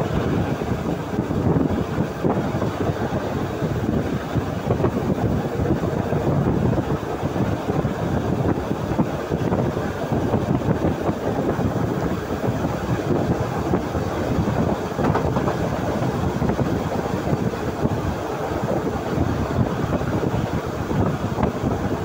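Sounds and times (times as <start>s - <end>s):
rushing air: 0.0s - 22.0s
train wheels rumbling on rails: 0.0s - 22.0s.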